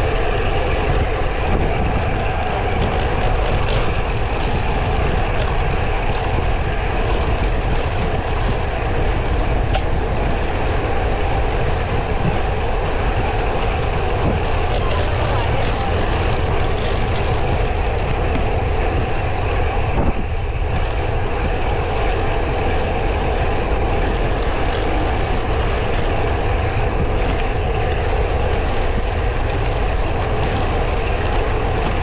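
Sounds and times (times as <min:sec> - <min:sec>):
bike tyres rolling on road: 0:00.0 - 0:32.0
wind rumble on microphone: 0:00.0 - 0:32.0.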